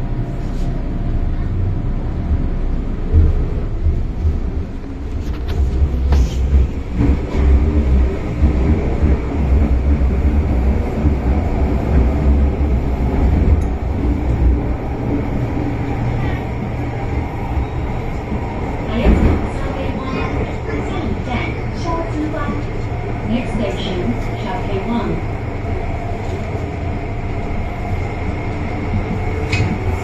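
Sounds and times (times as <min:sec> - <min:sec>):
subway train rumbling in tunnel: 0:00.0 - 0:30.0.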